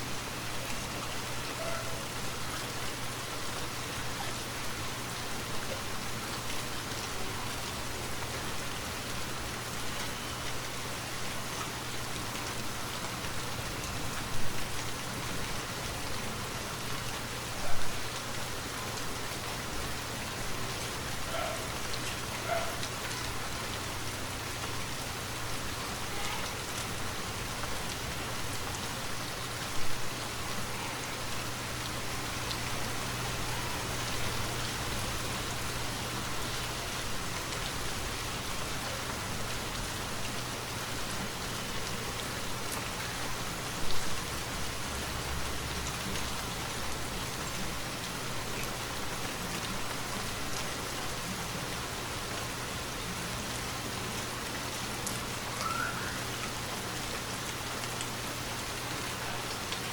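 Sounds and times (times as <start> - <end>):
rainfall hissing: 0.0 - 59.9.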